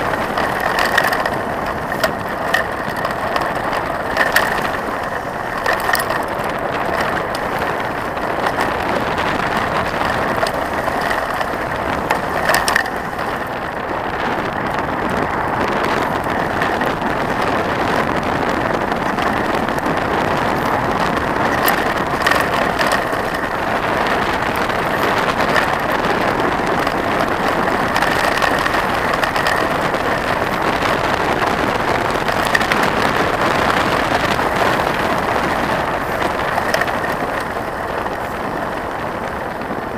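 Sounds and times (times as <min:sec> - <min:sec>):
bike knocking over bumps: 0:00.0 - 0:39.9
bike rattling: 0:00.0 - 0:39.9
bike tyres crunching on gravel: 0:00.0 - 0:39.9.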